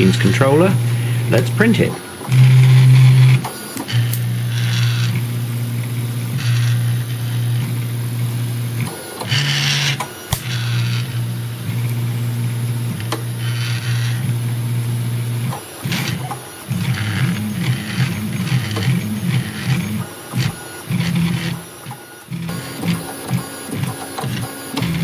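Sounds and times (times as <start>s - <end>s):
stepper motors whining: 0.0s - 25.0s.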